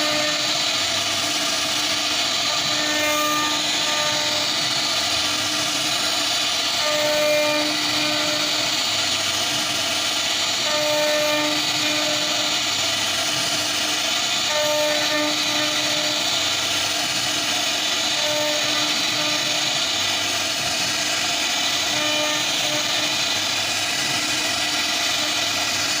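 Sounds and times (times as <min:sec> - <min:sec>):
router spindle cutting wood: 0:00.0 - 0:26.0.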